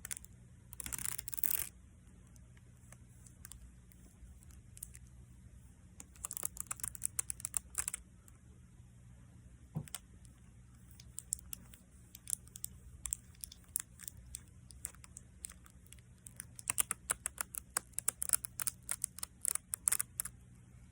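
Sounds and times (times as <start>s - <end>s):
adhesive tape crackling and clicking: 0.0s - 1.7s, 2.3s - 5.1s, 6.0s - 8.0s, 9.8s - 20.3s.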